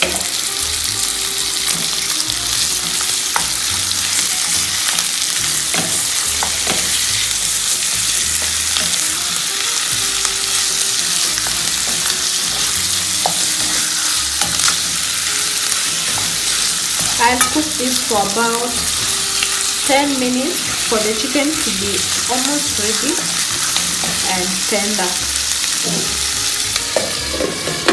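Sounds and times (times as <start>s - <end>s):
chicken and onions sizzling in pan: 0.0s - 27.9s.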